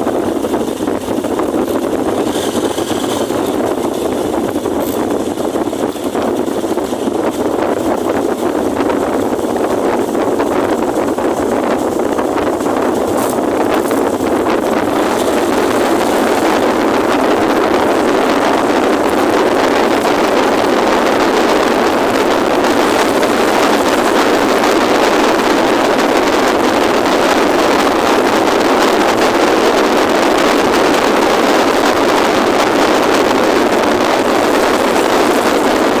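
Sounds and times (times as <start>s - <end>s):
tyres on wet pavement: 0.0s - 36.0s
wind rushing: 0.0s - 36.0s.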